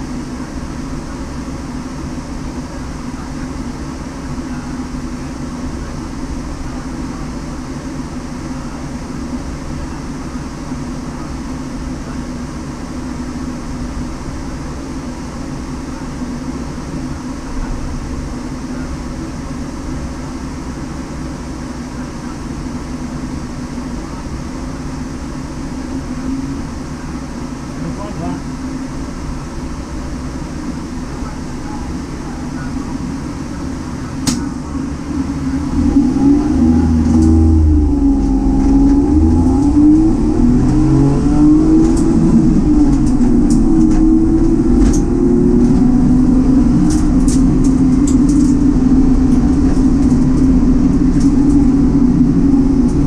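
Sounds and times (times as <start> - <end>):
car engine droning: 0.0 - 53.0.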